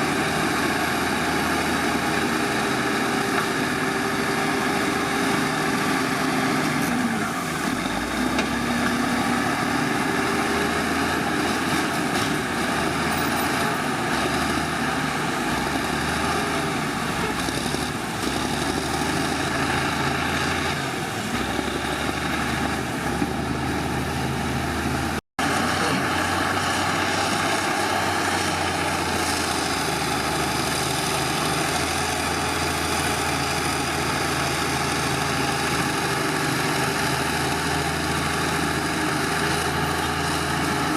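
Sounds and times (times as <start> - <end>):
heavy machinery diesel engine running: 0.0 - 40.9.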